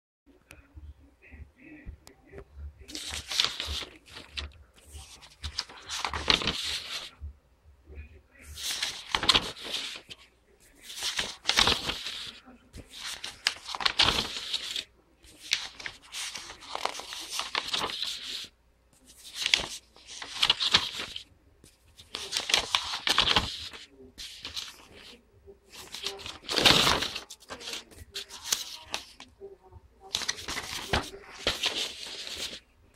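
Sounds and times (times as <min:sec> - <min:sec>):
paper rustling and crinkling: 0:02.8 - 0:07.2, 0:08.4 - 0:29.4, 0:30.0 - 0:32.6.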